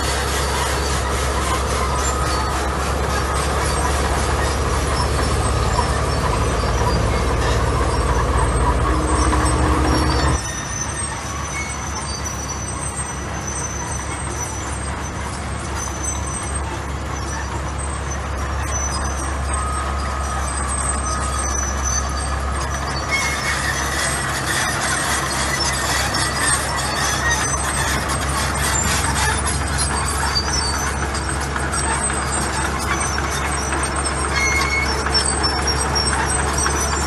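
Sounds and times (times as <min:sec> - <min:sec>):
diesel machinery droning: 0:00.0 - 0:37.0
thin high squeaks: 0:00.0 - 0:37.0.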